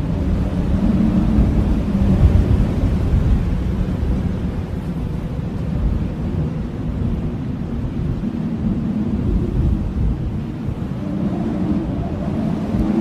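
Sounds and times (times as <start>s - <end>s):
blizzard wind rumbling: 0.0s - 13.0s.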